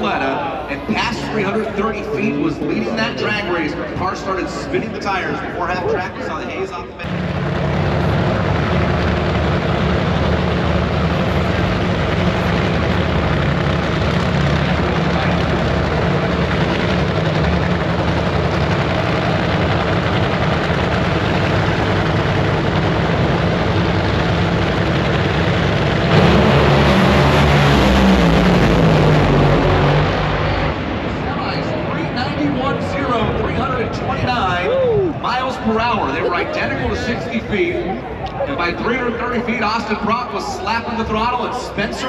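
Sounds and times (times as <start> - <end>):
drag racing engines droning: 0.0 - 42.0.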